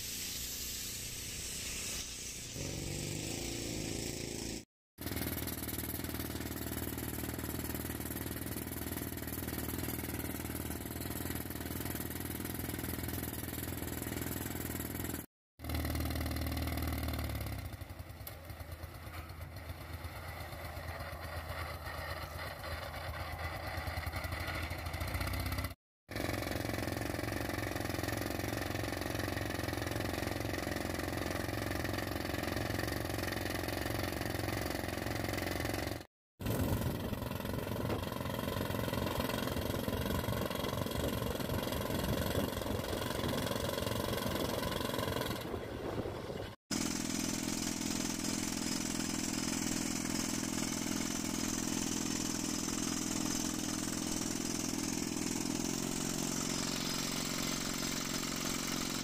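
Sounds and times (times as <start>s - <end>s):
rock drill drilling rock: 0.0s - 15.9s, 26.1s - 46.0s, 46.7s - 59.0s.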